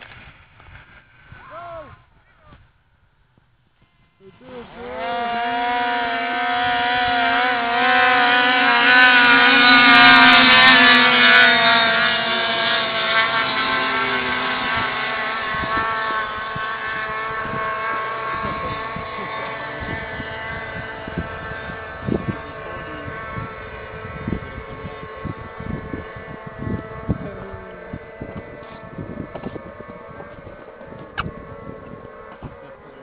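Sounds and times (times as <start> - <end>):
snowmobile engines at full throttle: 4.2 - 33.0.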